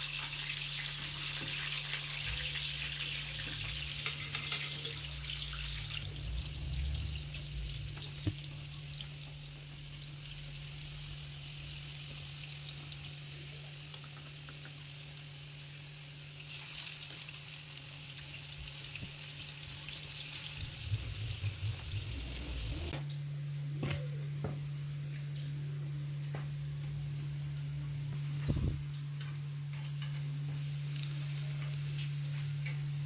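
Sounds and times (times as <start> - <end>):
potato slices sizzling in oil: 0.0 - 23.0, 28.2 - 33.0.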